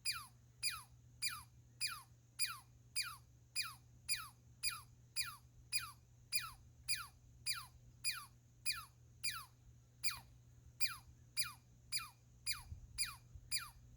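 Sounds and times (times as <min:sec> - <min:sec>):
squirrel calling with falling whistles: 0:00.0 - 0:10.2, 0:10.8 - 0:13.8.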